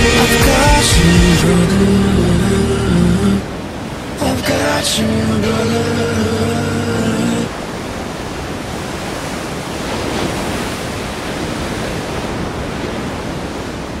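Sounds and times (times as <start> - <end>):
waves breaking and washing: 0.0 - 14.0.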